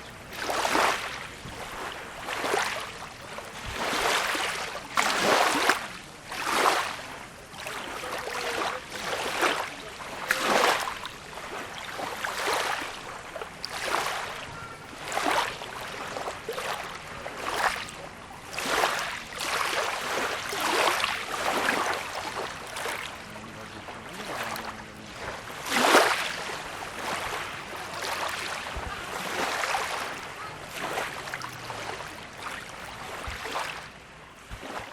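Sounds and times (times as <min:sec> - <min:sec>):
small waves splashing and lapping: 0:00.0 - 0:34.9.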